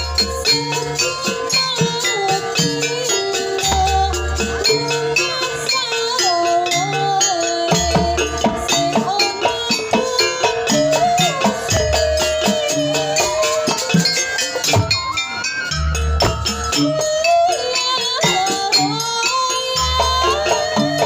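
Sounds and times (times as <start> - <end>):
gamelan ensemble music: 0.0 - 21.0.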